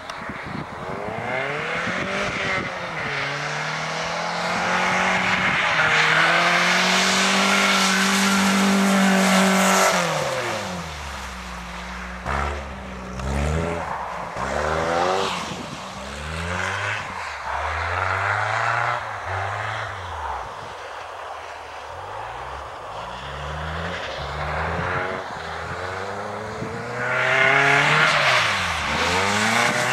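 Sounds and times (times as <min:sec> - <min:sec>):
car engine revving: 0:00.9 - 0:20.7, 0:22.0 - 0:29.9.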